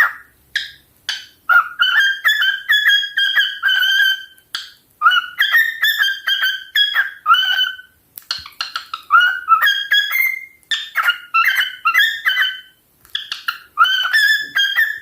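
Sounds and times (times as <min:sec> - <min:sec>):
cockatiel whistling: 0:00.0 - 0:15.0.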